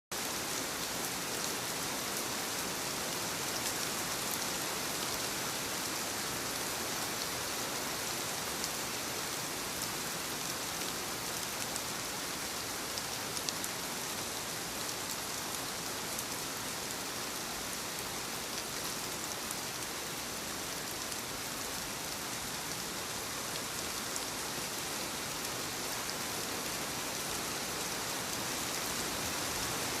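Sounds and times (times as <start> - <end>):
rain on a wooden roof: 0.1 - 30.0.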